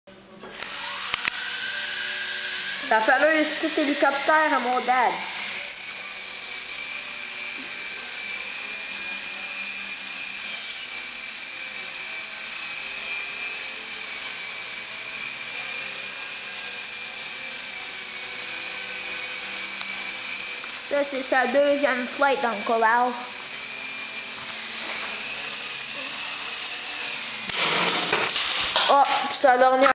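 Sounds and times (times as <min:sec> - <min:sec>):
rc helicopter high-pitched whine: 0:00.6 - 0:28.6.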